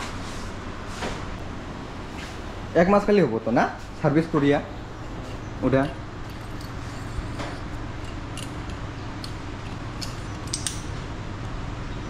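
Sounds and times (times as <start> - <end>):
low workshop hum: 0.0 - 12.0.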